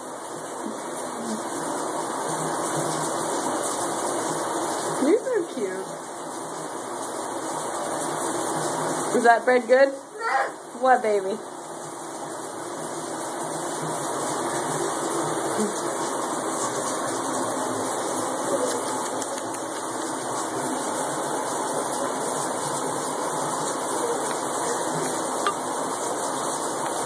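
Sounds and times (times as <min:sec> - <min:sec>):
shower water spraying: 0:00.1 - 0:09.7, 0:10.7 - 0:27.0.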